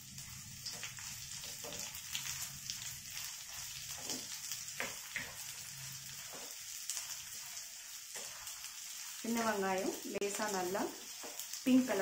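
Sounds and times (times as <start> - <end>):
shallots sizzling in oil: 0.0 - 12.0.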